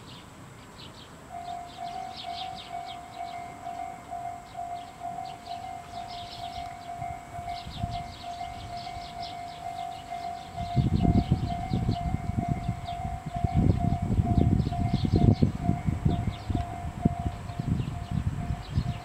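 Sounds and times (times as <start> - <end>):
railcar rumble: 0.0 - 19.0
high rhythmic chirping: 1.3 - 19.0
level crossing alarm ringing: 1.3 - 19.0.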